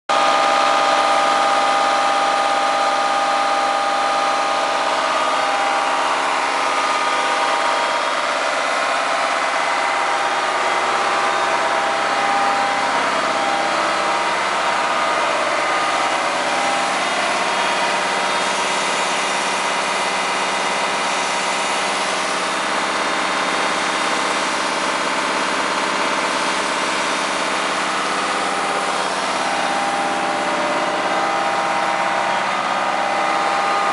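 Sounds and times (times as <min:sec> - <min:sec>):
hydraulic power pack whining drone: 0:00.2 - 0:33.9.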